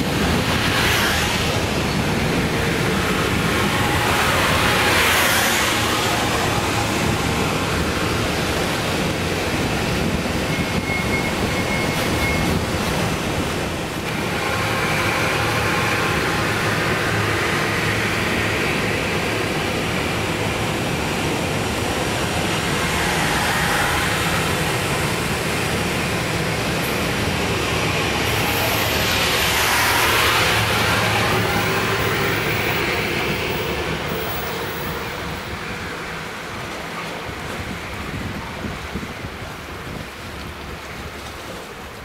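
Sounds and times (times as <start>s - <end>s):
train passing on rails: 0.0s - 42.0s.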